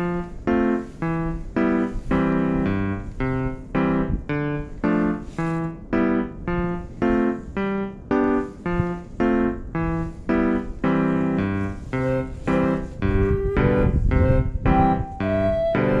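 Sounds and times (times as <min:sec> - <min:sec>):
keyboard chords: 0:00.0 - 0:16.0.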